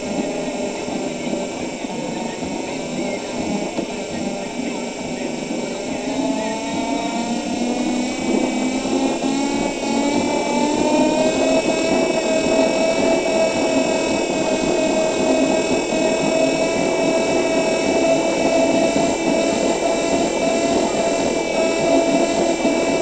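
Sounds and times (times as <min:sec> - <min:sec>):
electric bus motor whining: 0:00.0 - 0:23.0.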